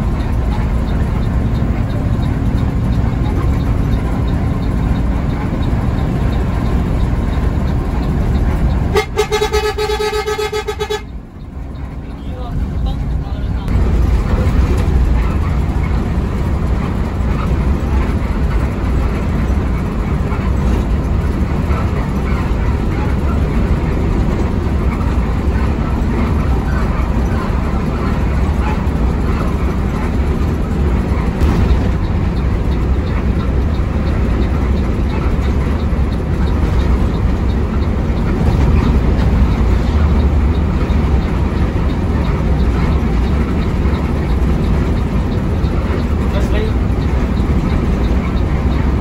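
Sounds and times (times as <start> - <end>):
bus engine drone and road noise: 0.0 - 49.0.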